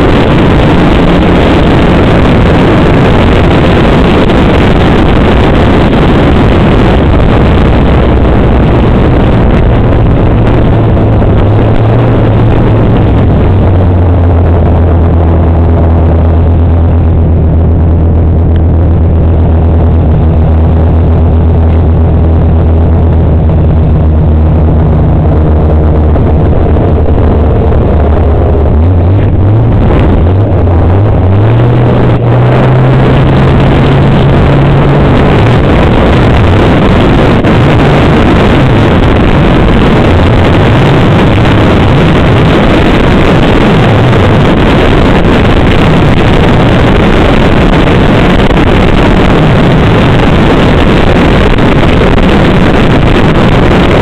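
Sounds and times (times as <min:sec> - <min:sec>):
loud rushing noise: 0:00.0 - 0:54.0
snowmobile engine: 0:00.0 - 0:54.0.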